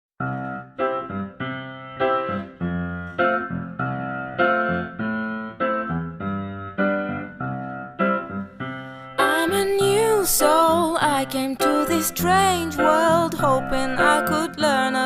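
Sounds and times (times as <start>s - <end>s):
keyboard chords: 0.2s - 15.0s.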